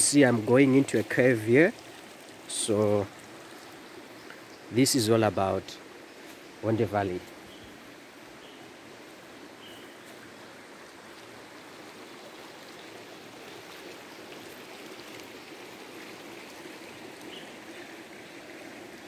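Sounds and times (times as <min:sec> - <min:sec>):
river water running over rocks: 0:00.0 - 0:19.0.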